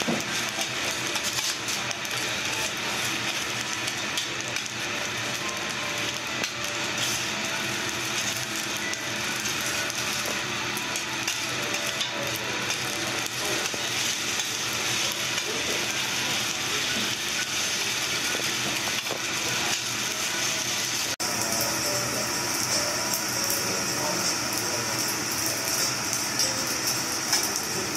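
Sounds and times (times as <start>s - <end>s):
food sizzling on griddle: 0.0s - 27.9s.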